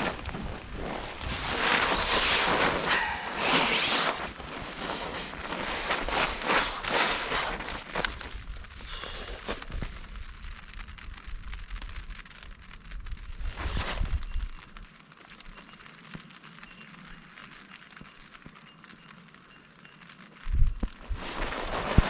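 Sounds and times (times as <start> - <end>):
rain and wind on a tarp: 0.0 - 22.0.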